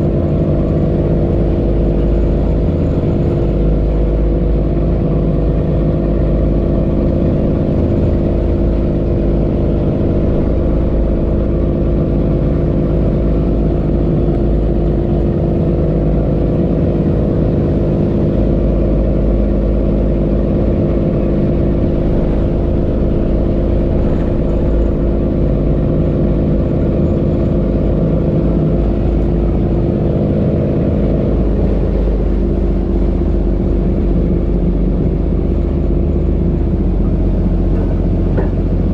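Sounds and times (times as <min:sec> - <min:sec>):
boat engine rumbling: 0:00.0 - 0:38.9.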